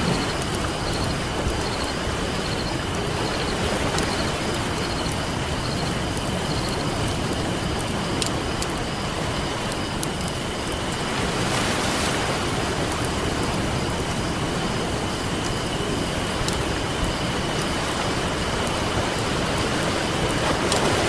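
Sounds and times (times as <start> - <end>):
campfire crackling and popping: 0.0 - 21.0
ocean surf rushing: 0.0 - 21.0.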